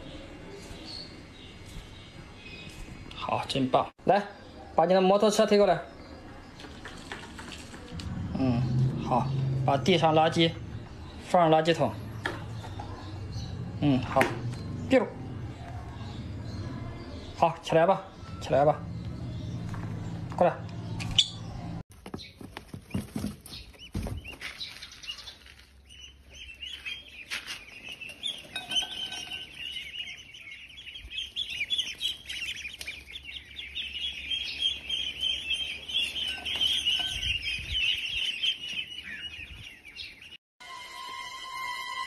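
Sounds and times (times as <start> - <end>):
ducklings peeping: 0.0 - 40.4.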